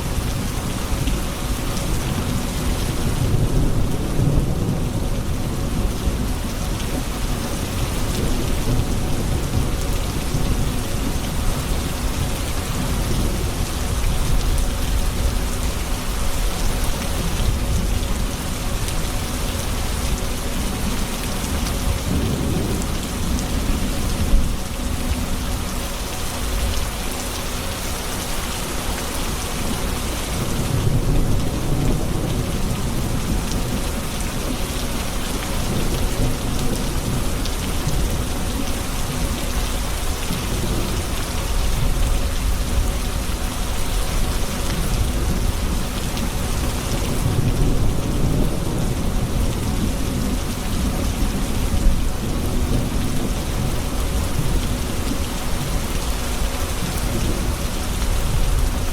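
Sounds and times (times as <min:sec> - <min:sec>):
heavy rain falling: 0:00.0 - 0:58.9
low rolling thunder: 0:00.1 - 0:25.8, 0:29.5 - 0:43.5, 0:44.2 - 0:58.9.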